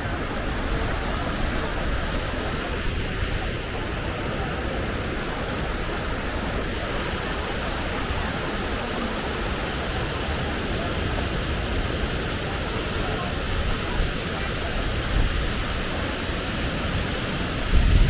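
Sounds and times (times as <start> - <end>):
water pouring down spillway: 0.0 - 18.0.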